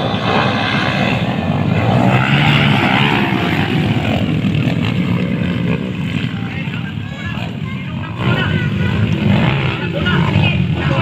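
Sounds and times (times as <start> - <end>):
motocross bike engines revving: 0.0 - 11.0.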